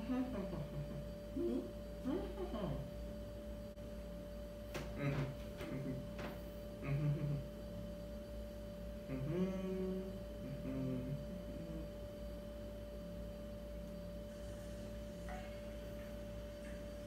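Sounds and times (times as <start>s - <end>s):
faint steady tone: 0.0s - 17.0s
muffled hum with mouth full of water: 0.0s - 17.0s.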